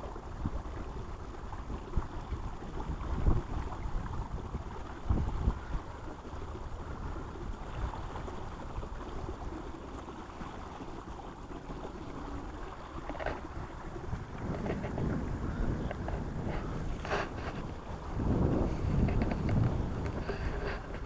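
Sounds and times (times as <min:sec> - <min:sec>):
water rushing around kayak: 0:00.0 - 0:21.0
wind on microphone: 0:00.4 - 0:09.0, 0:12.6 - 0:21.0.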